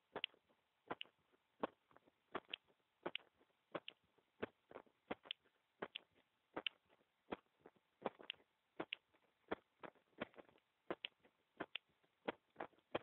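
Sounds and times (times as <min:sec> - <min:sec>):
human heartbeat: 0:00.0 - 0:13.0.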